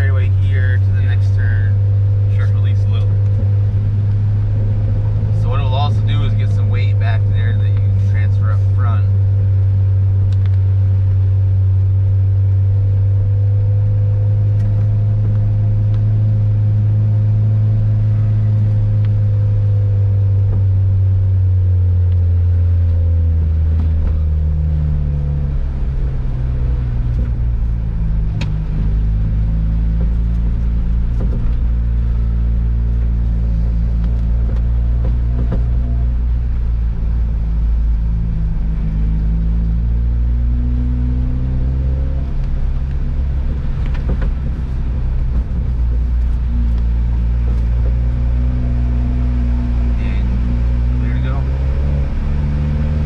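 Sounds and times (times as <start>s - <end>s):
car engine drone from inside: 0.0s - 53.0s
tyre and road noise: 0.0s - 53.0s.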